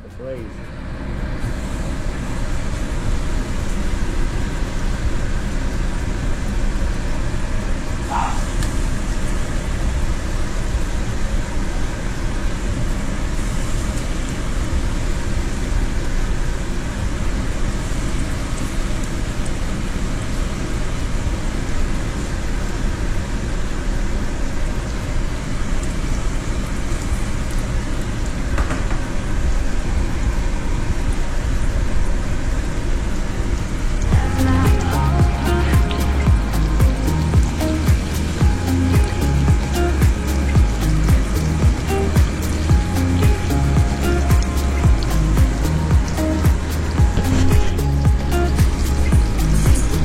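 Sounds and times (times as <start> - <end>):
fish frying in hot oil: 0.8 - 50.0.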